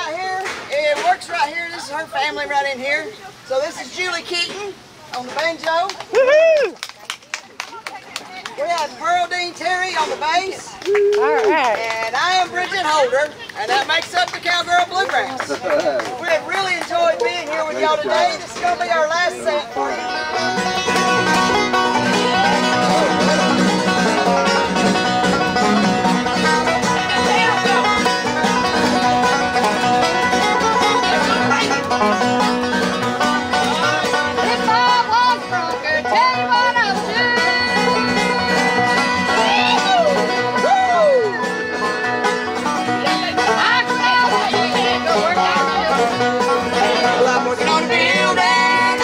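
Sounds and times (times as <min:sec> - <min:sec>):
bluegrass band playing: 0:00.0 - 0:06.5, 0:08.4 - 0:49.0
rapid banjo picking: 0:09.5 - 0:49.0.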